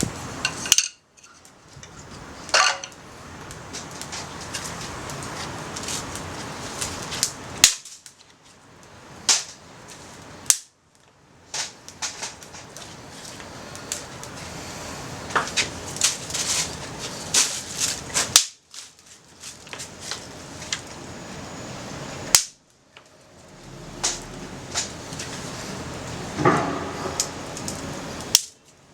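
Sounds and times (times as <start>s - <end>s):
rushing wind and flame: 0.0s - 28.9s
wood fire crackling and popping: 0.0s - 28.9s.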